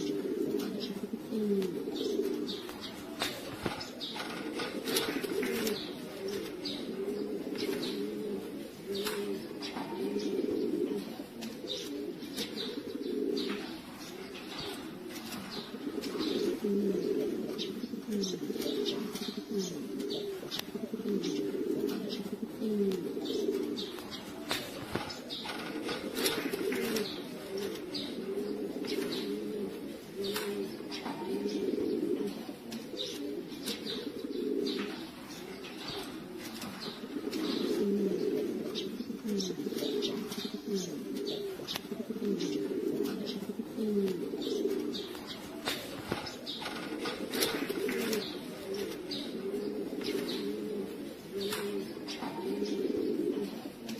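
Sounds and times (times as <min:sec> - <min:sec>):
pigeons cooing: 0:00.0 - 0:53.9.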